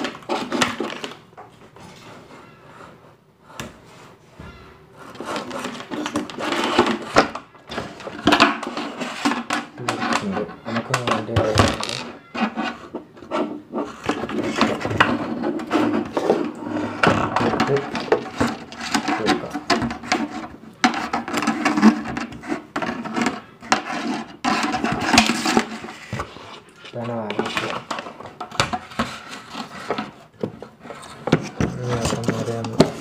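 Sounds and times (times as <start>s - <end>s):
plastic cup and wire handling: 5.1s - 33.0s.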